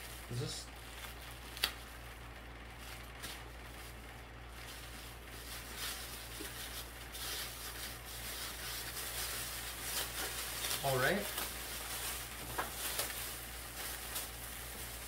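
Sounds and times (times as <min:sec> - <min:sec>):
plastic and paper wrapping crinkling: 0:00.0 - 0:15.0
steady low hum: 0:00.0 - 0:15.0.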